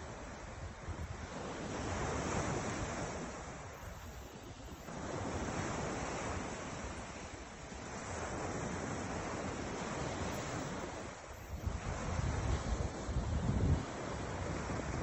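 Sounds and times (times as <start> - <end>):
ocean surf washing in: 0.0 - 15.0
wind rumbling on microphone: 0.0 - 15.0.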